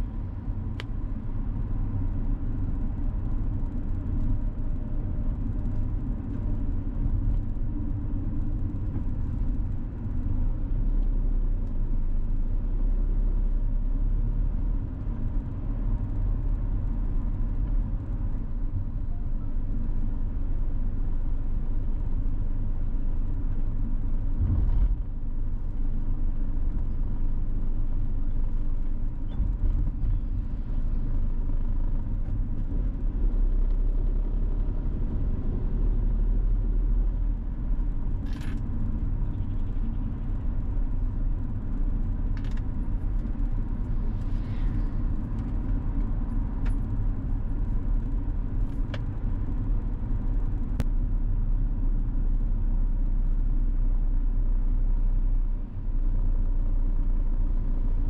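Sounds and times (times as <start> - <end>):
vehicle driving on road: 0.0 - 58.0.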